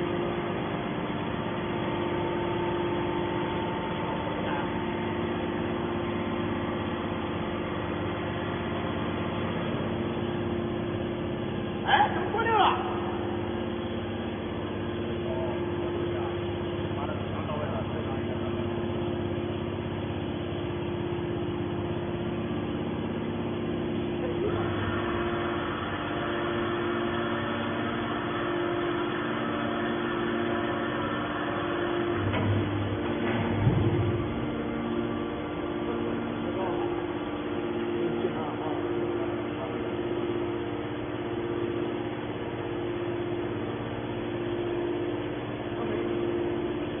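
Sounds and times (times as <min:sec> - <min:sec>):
baler machine hum: 0:00.0 - 0:47.0.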